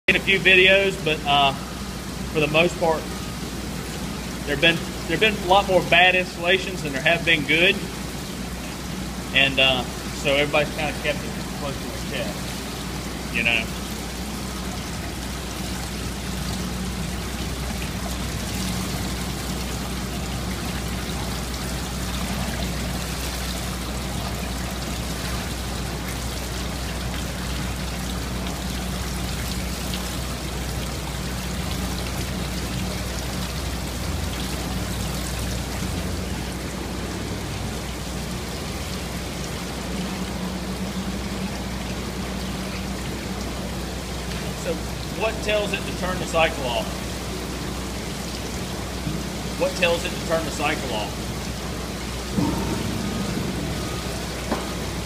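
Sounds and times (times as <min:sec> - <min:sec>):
water splashing and trickling: 0:00.0 - 0:55.0
steady low hum: 0:00.1 - 0:55.0.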